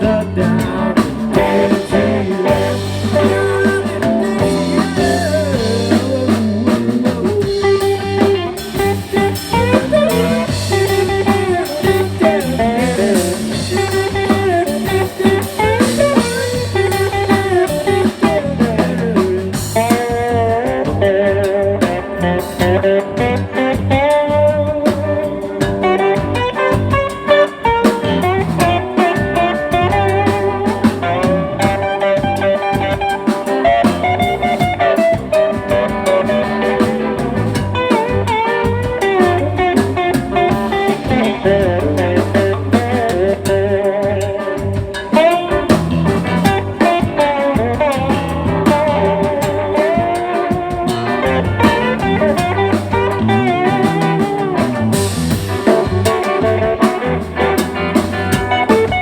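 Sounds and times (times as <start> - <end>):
blues-rock band playing: 0.0 - 59.0
electric guitar lead with bends: 0.0 - 59.0.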